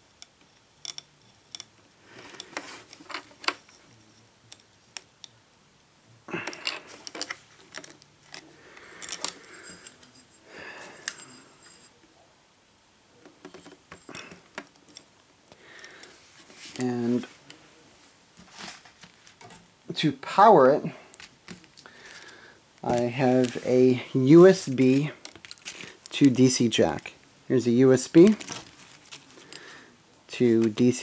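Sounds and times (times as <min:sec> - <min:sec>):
cables rustling: 0:00.0 - 0:05.4, 0:06.3 - 0:12.0, 0:13.2 - 0:19.7, 0:20.3 - 0:31.0.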